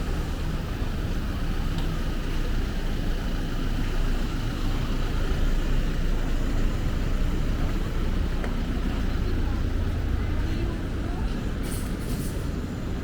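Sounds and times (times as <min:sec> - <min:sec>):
low rumble of street traffic: 0:00.0 - 0:13.0.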